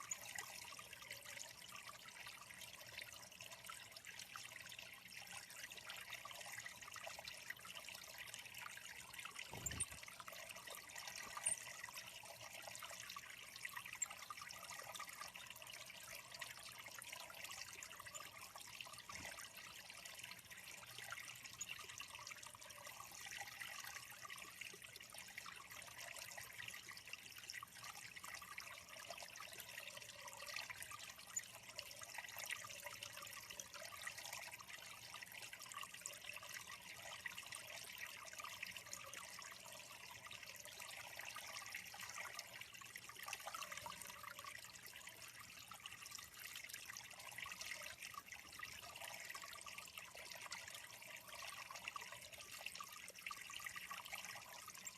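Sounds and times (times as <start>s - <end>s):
water trickling into pond: 0.0s - 54.9s.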